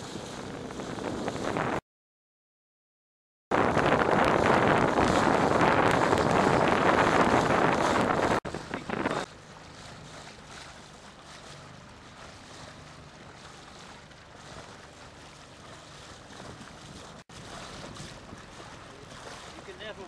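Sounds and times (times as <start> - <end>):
low engine hum: 0.0 - 1.8, 3.6 - 20.0
wind buffeting microphone: 0.0 - 1.8, 3.5 - 20.0
water wash: 3.6 - 20.0.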